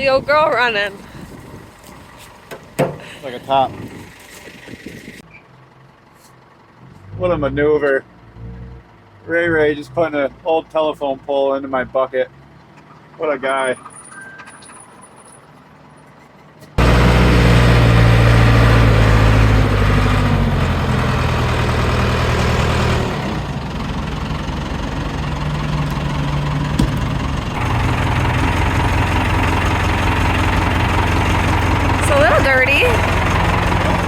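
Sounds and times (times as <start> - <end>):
backhoe engine running: 0.0 - 11.2, 15.5 - 34.0.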